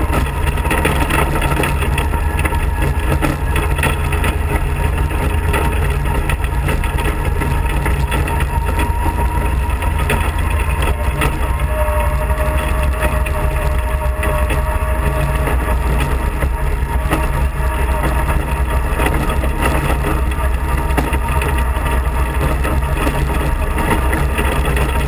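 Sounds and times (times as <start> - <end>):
kart engine running: 0.0 - 25.0
rattles and knocks from bumps: 0.0 - 25.0
thin whine: 0.0 - 25.0.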